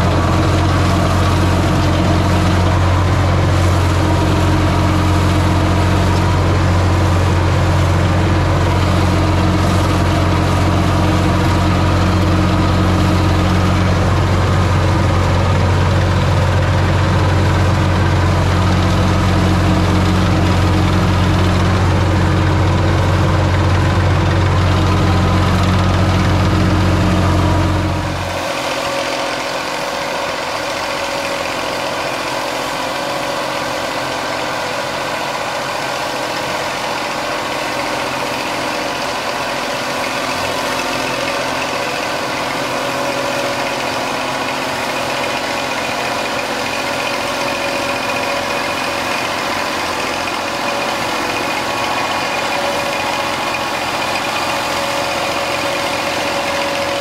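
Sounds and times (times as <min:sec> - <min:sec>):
flail mulcher cutting grass: 0:00.0 - 0:57.0
tractor engine running: 0:00.0 - 0:57.0.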